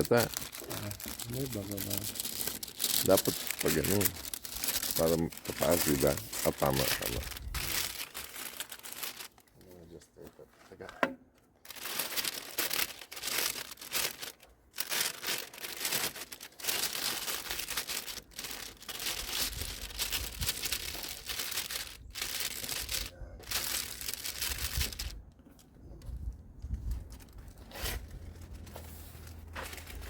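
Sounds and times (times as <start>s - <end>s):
paper crinkling and rustling: 0.0s - 30.0s.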